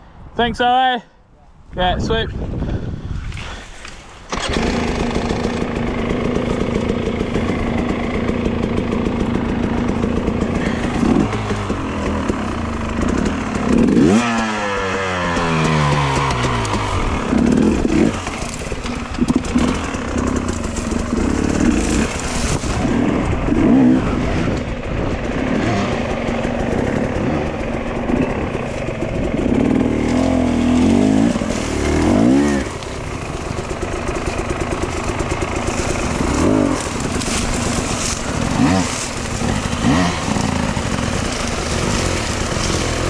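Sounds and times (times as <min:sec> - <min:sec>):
dirt bike engine revving: 0:04.3 - 0:43.0.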